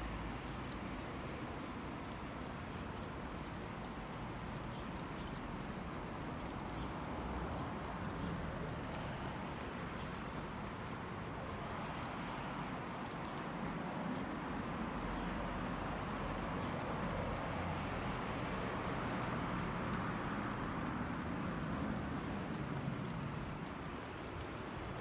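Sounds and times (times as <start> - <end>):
city street noise: 0.0 - 25.0.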